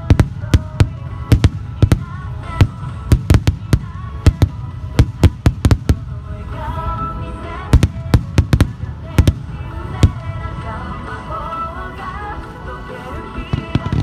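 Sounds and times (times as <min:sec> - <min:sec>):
fireworks bangs: 0:00.0 - 0:10.8, 0:13.4 - 0:14.0.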